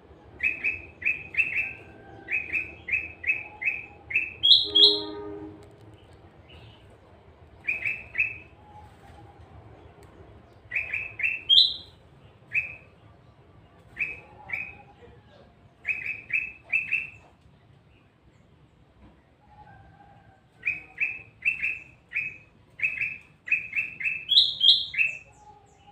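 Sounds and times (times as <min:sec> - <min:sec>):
songbird chirping: 0:00.0 - 0:19.6, 0:20.2 - 0:25.9.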